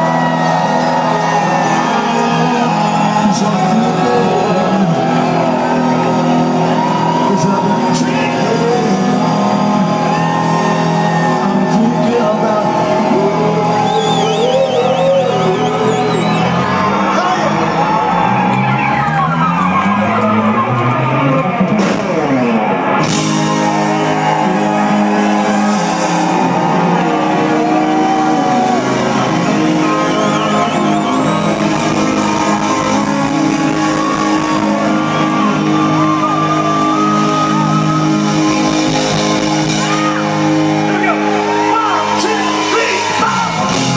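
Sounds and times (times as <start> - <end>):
electric guitars: 0.0 - 43.9
keyboards: 0.0 - 43.9.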